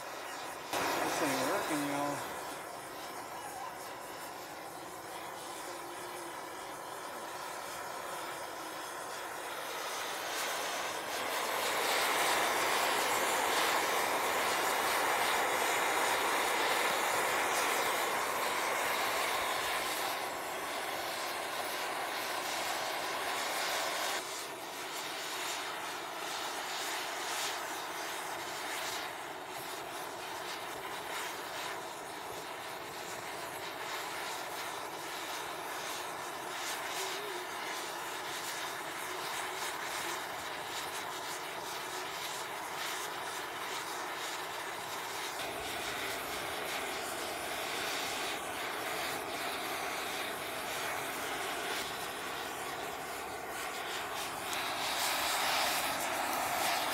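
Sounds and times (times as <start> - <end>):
gas torch hissing: 0.0 - 56.9.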